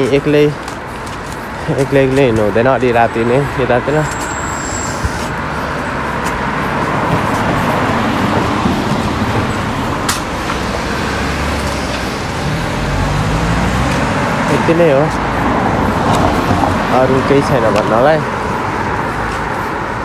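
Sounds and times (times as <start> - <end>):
passing car traffic: 0.0 - 20.0.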